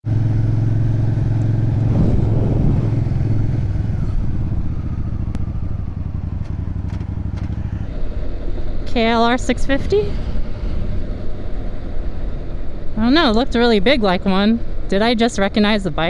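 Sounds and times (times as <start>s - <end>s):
motorcycle engine cruising: 0.0s - 16.0s
road and wind noise: 0.0s - 16.0s.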